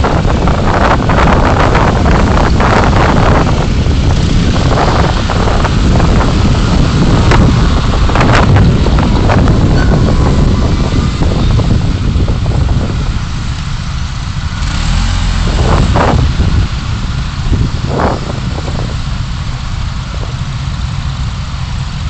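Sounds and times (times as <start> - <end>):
car road and engine rumble: 0.0 - 22.0
wind noise on microphone: 0.0 - 22.0.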